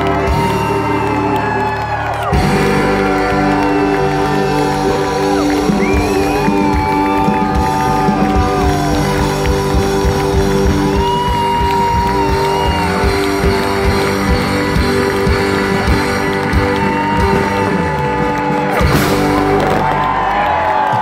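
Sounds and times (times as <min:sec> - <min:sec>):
crowd cheering and whooping: 0:00.0 - 0:21.0
live band playing over loudspeakers: 0:00.0 - 0:21.0.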